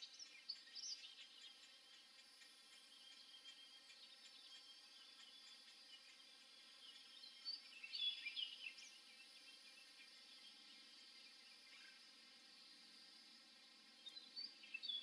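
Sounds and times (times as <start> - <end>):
distant bird calls: 0.0 - 12.9.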